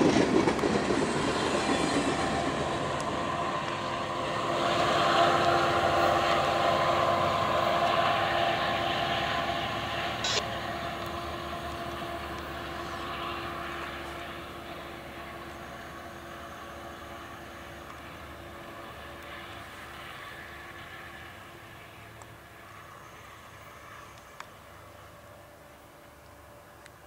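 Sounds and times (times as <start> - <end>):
diesel locomotive engine: 0.0 - 27.0
train wheel and rail noise: 0.0 - 27.0.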